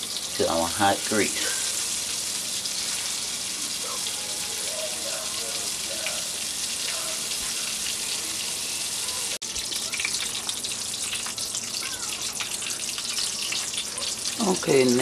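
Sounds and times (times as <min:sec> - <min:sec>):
steaks sizzling in hot oil: 0:00.0 - 0:15.0.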